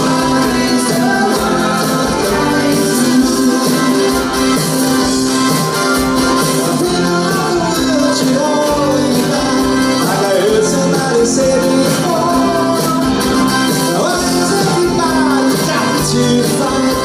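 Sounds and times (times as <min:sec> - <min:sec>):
man singing: 0:00.0 - 0:05.0, 0:06.5 - 0:17.0
pop-rock band playing: 0:00.0 - 0:17.0.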